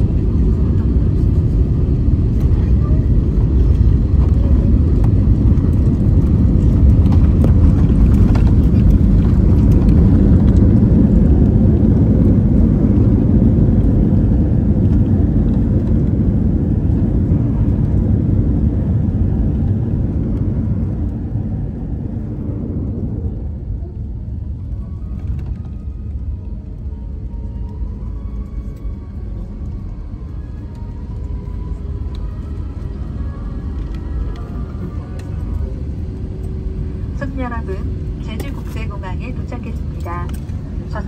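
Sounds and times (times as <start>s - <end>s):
low rumble of engines and wheels: 0.0s - 41.0s.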